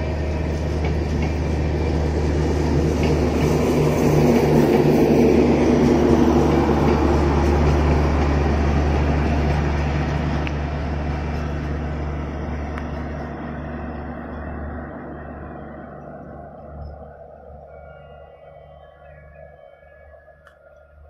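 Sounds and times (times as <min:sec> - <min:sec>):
diesel engine hum: 0:00.0 - 0:21.0
rumble of train coaches: 0:00.0 - 0:21.0.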